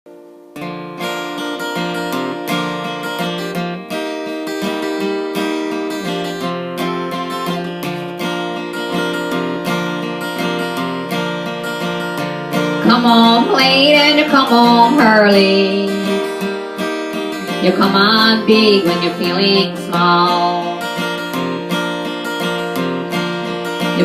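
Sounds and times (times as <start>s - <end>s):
acoustic guitar strumming chords: 0.1s - 24.0s.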